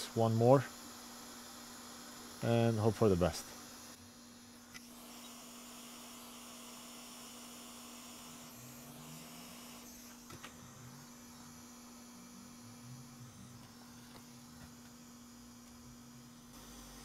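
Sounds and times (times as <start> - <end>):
faint mains hum: 0.0 - 17.0.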